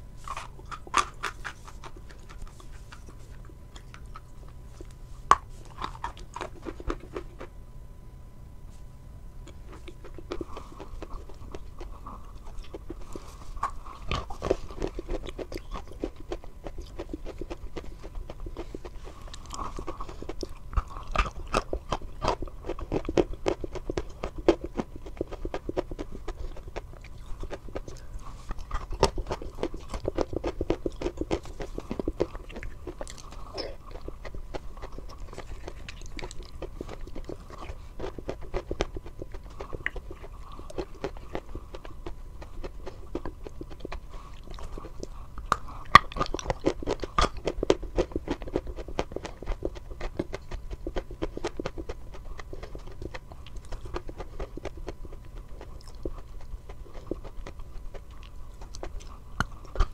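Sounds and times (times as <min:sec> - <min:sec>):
close chewing and biting: 0:00.0 - 0:07.6, 0:09.4 - 0:59.9.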